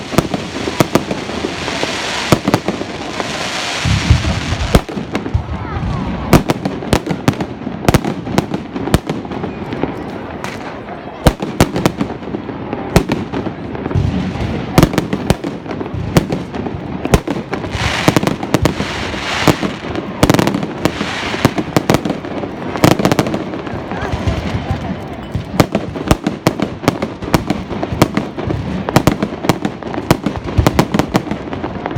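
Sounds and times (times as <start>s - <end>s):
fireworks bangs: 0.0s - 31.9s
fireworks crackling: 0.0s - 31.9s.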